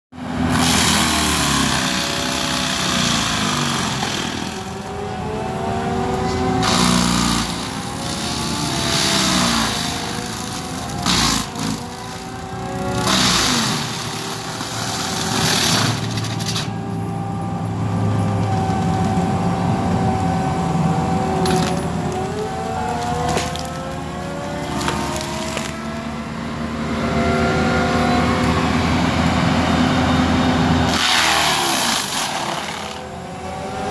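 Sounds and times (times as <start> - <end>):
loader engine: 0.2 - 33.9
mulcher grinding wood: 0.3 - 16.8, 20.9 - 27.0, 27.6 - 33.9.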